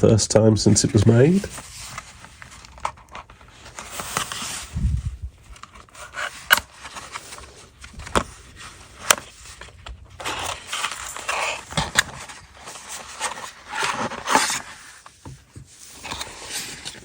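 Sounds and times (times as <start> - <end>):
scraping rustle: 0.7 - 17.0.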